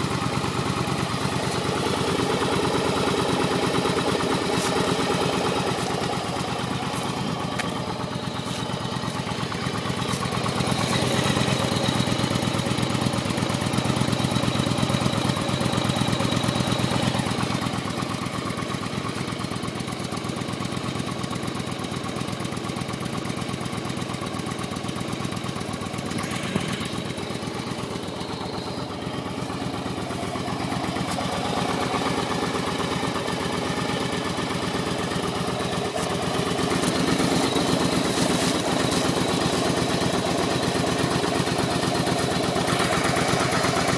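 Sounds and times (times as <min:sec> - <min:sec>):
engine knocking: 0:00.0 - 0:43.9
motorcycle engine idling: 0:00.0 - 0:43.9.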